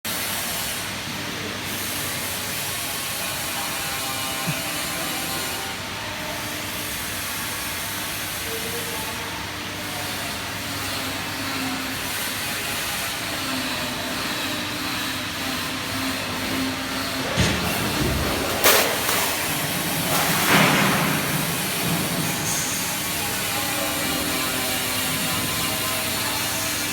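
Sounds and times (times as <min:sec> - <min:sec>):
metal shearing machine hissing: 0:00.1 - 0:26.9.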